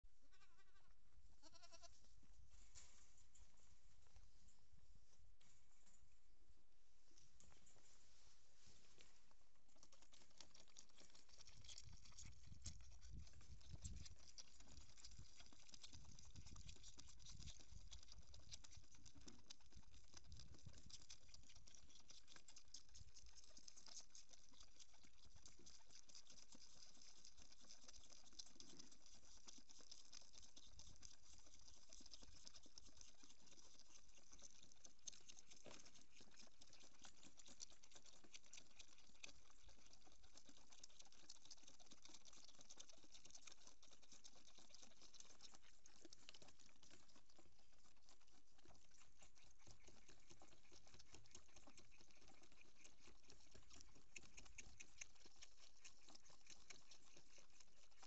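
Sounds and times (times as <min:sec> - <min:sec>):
goat kids sucking bottles: 0:00.3 - 0:04.4, 0:07.2 - 0:58.0.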